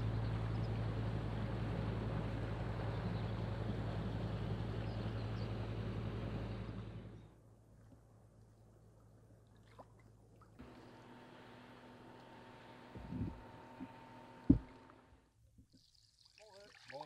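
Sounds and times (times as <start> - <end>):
low engine hum: 0.0 - 15.4.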